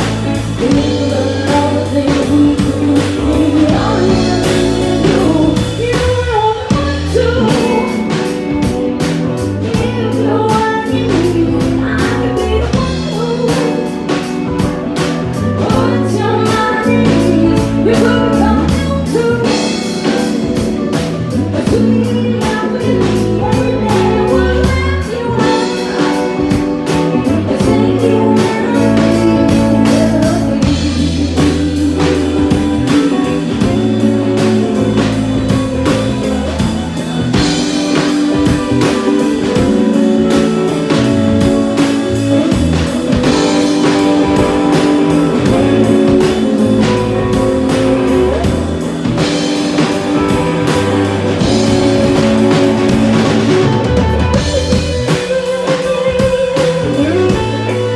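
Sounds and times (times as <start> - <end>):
bass line: 0.0 - 57.9
drum kit: 0.0 - 57.9
electric guitar: 0.0 - 57.9
person singing: 0.0 - 57.9.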